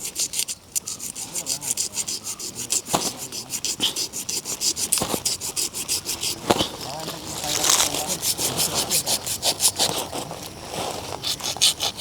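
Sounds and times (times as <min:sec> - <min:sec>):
knife scraping fish skin: 0:00.0 - 0:10.2, 0:11.2 - 0:12.0.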